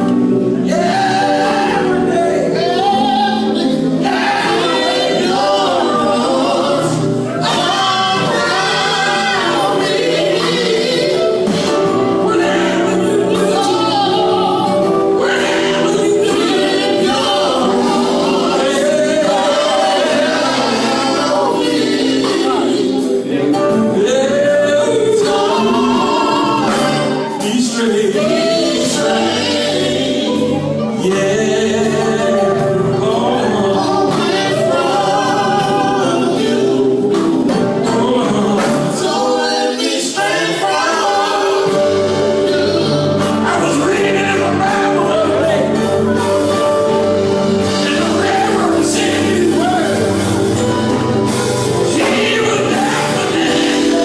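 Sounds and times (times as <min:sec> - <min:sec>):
gospel group singing in harmony: 0:00.0 - 0:54.0.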